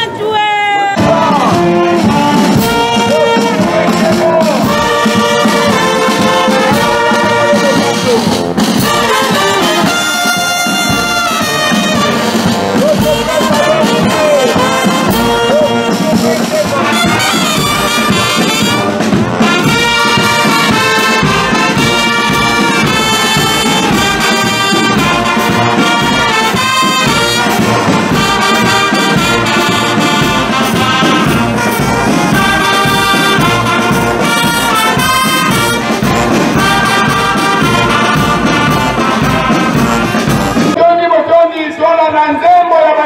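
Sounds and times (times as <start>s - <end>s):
brass band playing: 0.0s - 43.0s
bass drum beat: 0.9s - 40.8s.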